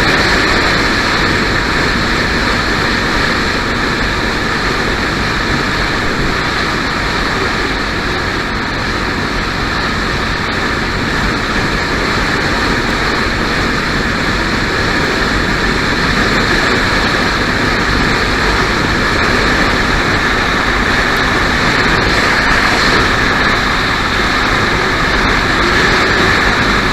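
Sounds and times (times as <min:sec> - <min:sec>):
motorcycle engine running: 0:00.0 - 0:26.9
road and wind noise: 0:00.0 - 0:26.9.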